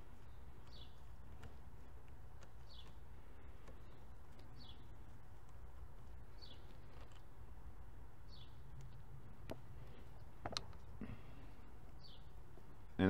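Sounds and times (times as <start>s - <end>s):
bird chirping: 0.0s - 10.4s, 11.0s - 13.0s
low steady rumble: 0.0s - 13.0s.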